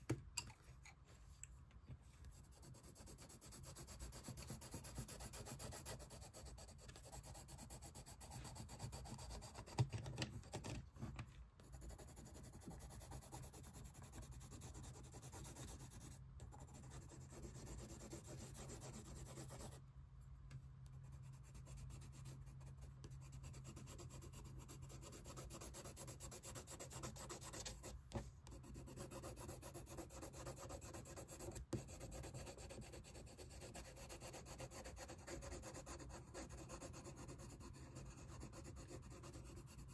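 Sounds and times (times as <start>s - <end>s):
pencil scratching on paper: 2.3s - 19.8s, 21.0s - 39.9s.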